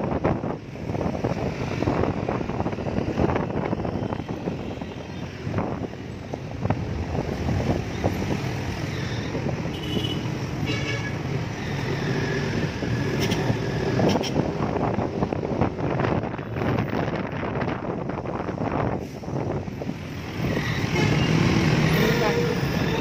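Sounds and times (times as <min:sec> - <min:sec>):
wind buffeting microphone: 0:00.0 - 0:09.8, 0:11.2 - 0:21.0
car traffic: 0:00.0 - 0:23.0
scooter engine and road noise: 0:00.0 - 0:23.0.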